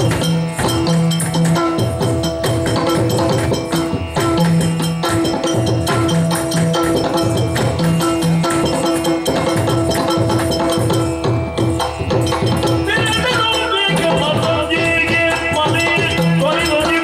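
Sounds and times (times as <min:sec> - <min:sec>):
ankle bells jingling: 0:00.0 - 0:17.0
drums beating a dense rhythm: 0:00.0 - 0:17.0.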